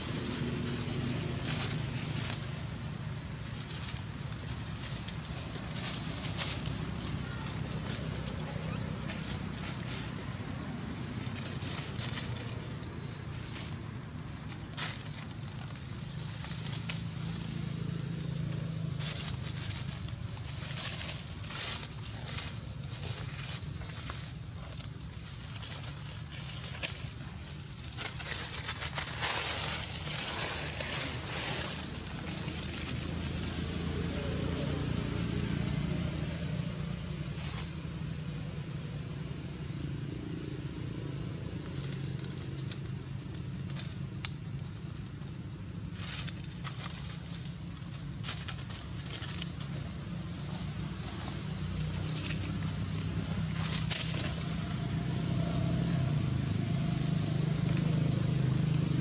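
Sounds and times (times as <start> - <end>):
dry leaves crackling and rustling: 0.0 - 59.0
engine humming: 0.0 - 59.0
low steady rumble: 0.0 - 59.0.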